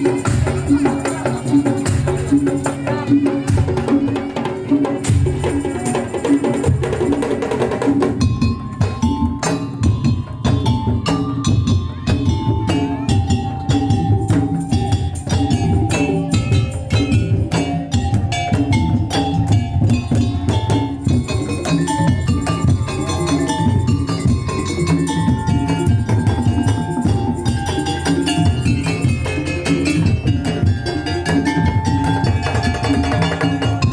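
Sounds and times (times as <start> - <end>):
drums beating fast rhythm: 0.0 - 33.9.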